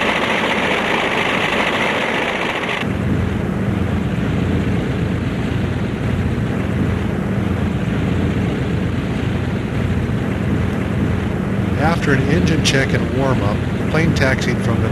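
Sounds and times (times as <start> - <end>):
propeller engines droning: 0.0 - 14.9.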